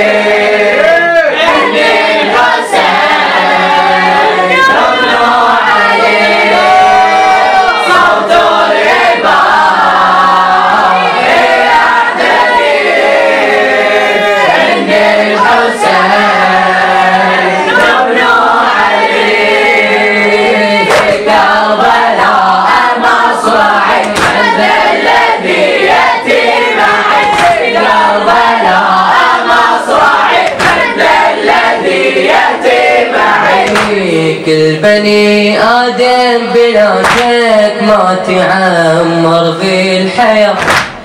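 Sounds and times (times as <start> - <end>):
boys chanting in chorus: 0.0 - 41.0.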